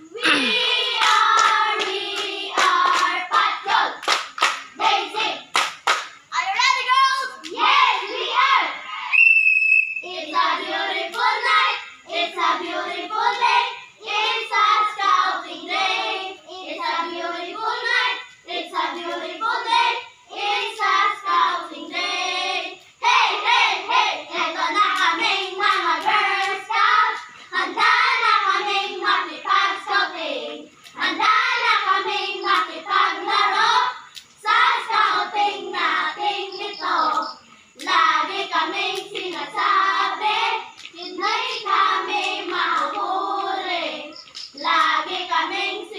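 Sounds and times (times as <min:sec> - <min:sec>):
young voices chanting in unison: 0:00.0 - 0:09.2, 0:10.0 - 0:45.9.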